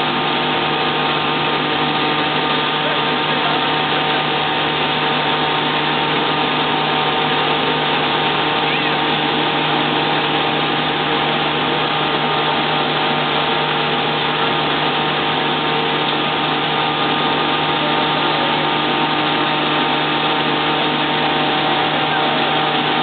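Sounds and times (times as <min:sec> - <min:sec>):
combine harvester engine humming: 0:00.0 - 0:23.0.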